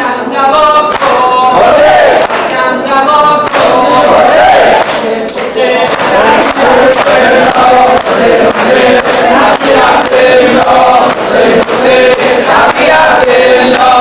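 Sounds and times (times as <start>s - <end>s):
crowd chanting in unison: 0.0s - 14.0s
man leading chant: 0.0s - 14.0s
sharp rhythmic beats: 0.0s - 14.0s.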